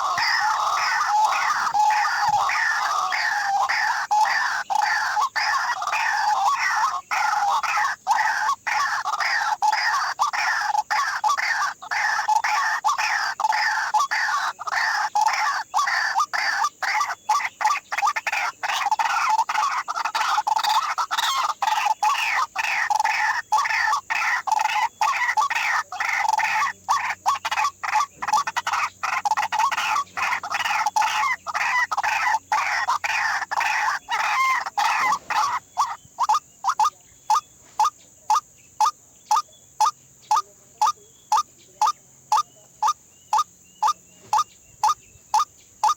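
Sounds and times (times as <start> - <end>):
waterhen calling: 0.0 - 45.9.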